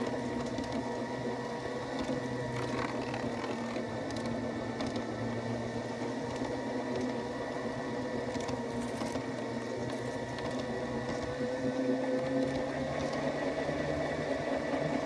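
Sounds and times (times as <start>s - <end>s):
model streetcar motor whirring: 0.0s - 15.0s.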